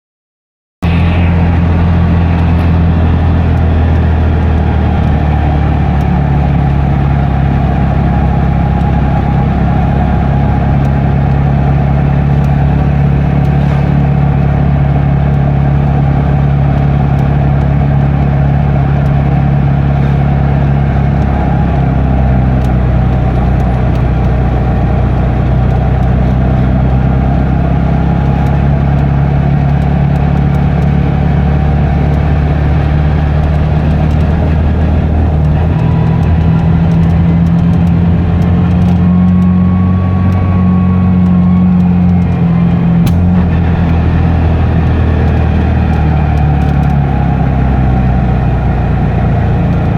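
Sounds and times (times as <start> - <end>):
road noise: 0.8 - 49.9
vehicle engine running: 0.8 - 49.9.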